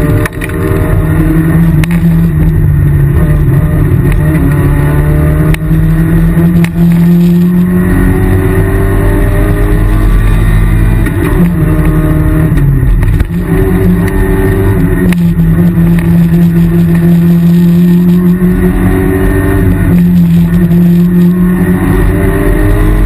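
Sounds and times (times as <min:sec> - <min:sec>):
rally car engine under load: 0:00.0 - 0:23.0.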